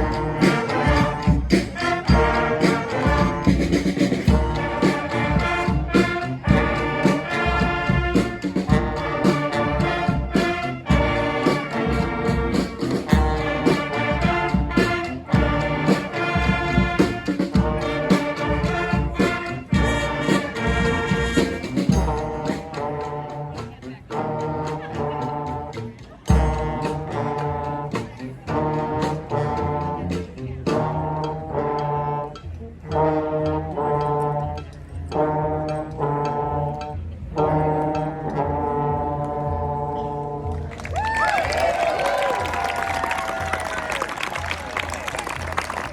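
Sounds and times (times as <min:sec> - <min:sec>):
brass band playing: 0:00.0 - 0:45.9.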